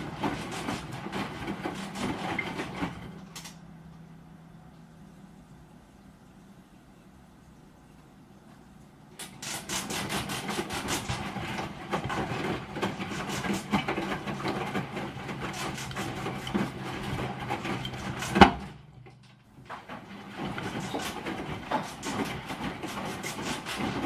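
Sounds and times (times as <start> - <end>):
washing machine scraping and clicking: 0.0 - 4.8, 9.1 - 24.0
low motor hum: 0.0 - 9.2, 10.0 - 23.2.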